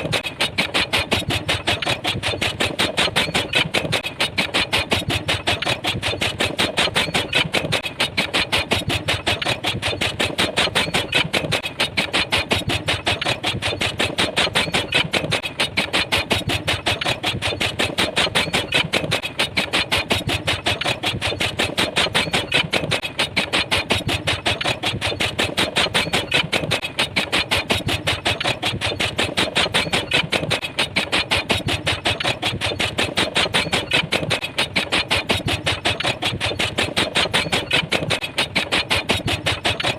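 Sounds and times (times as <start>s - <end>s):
pile driver hammering: 0.0s - 39.9s.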